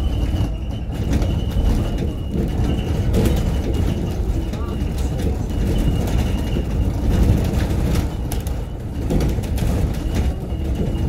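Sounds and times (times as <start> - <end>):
low rumble of engine and road: 0.0 - 11.0
rattles and clicks from bodywork: 0.0 - 11.0.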